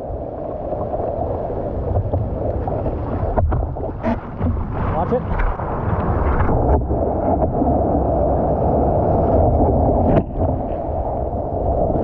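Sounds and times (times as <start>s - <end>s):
foaming water rushing: 0.0s - 12.0s
wind on microphone: 0.0s - 12.0s.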